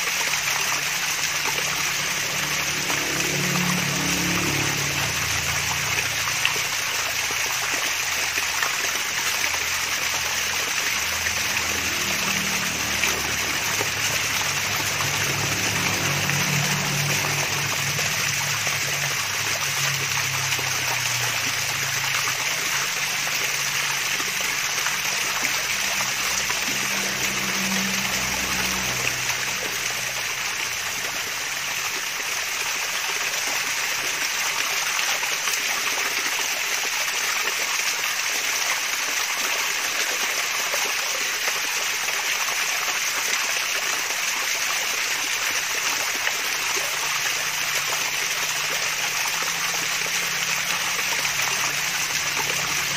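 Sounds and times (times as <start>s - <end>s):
waterfall splashing and trickling: 0.0s - 52.9s.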